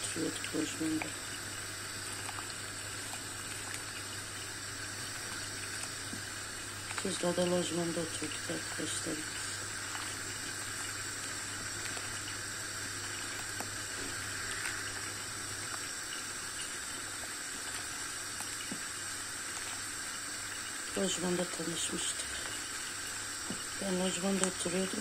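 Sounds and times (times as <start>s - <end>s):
low steady hum: 0.0s - 25.0s
soup bubbling in a pot: 0.0s - 25.0s.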